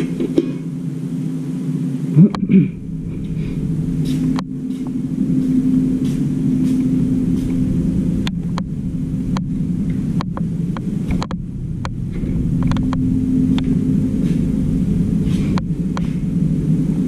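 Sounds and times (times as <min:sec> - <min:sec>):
motor humming: 0:00.0 - 0:17.0.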